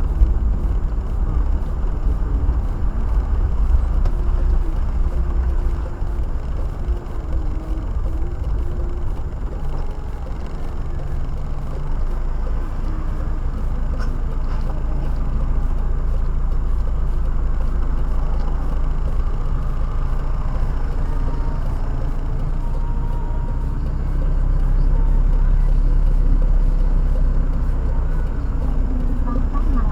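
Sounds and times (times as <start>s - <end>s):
car road and engine rumble: 0.0s - 29.9s.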